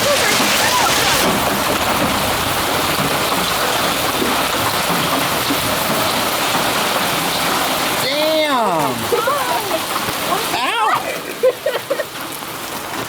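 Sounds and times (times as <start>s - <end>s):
hail and rain pelting down: 0.0s - 13.0s.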